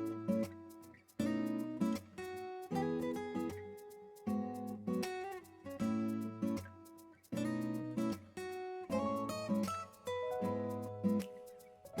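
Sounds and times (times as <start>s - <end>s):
plucked acoustic guitar: 0.0s - 12.0s.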